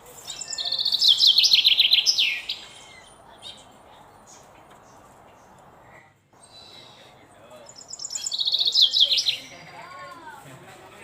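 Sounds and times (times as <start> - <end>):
songbird rapid high chirping: 0.1 - 5.6, 6.4 - 9.8.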